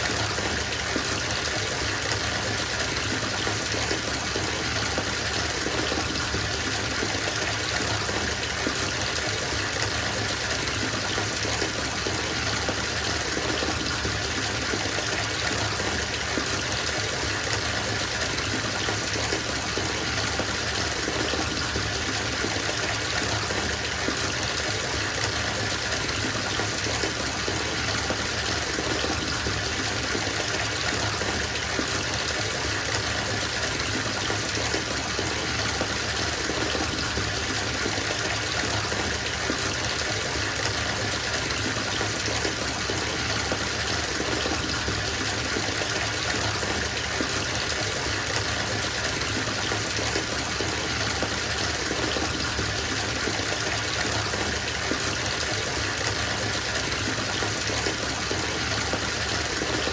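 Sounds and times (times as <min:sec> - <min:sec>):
water running from tap into tub: 0:00.0 - 0:59.9.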